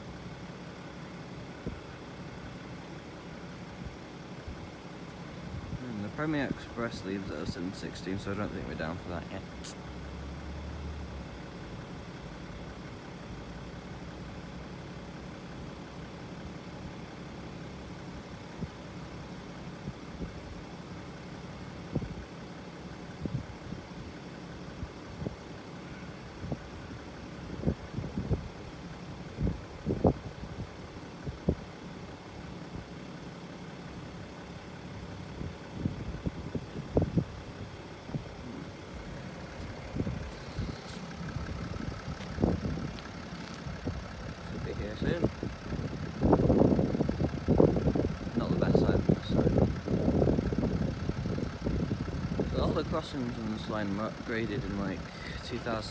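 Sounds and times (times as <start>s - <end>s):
low engine hum: 0.0s - 55.9s.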